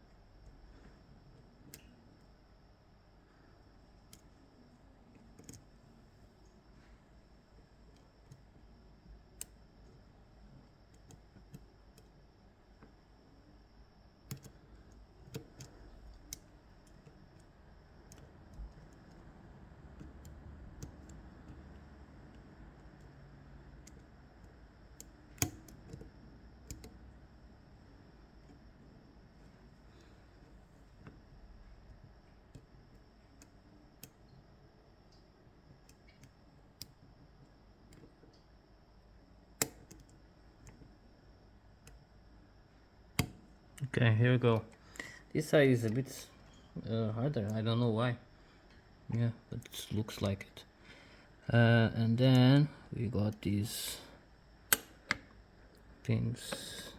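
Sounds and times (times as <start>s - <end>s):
low room hum: 0.0s - 56.9s.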